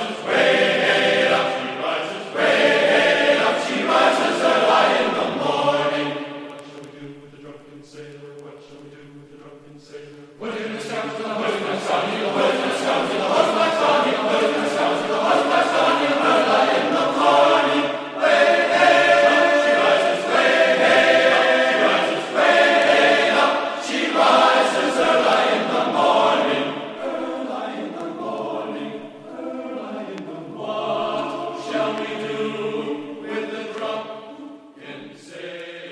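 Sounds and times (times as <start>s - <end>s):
choir singing: 0.0s - 35.9s.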